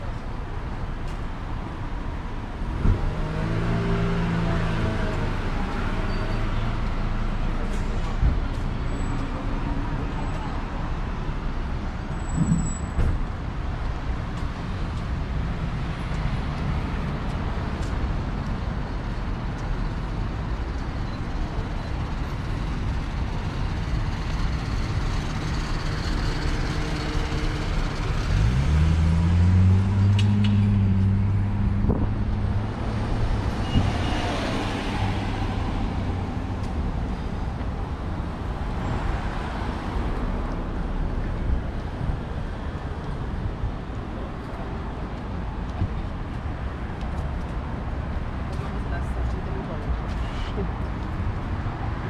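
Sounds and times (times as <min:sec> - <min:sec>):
hum of traffic: 0:00.0 - 0:52.0.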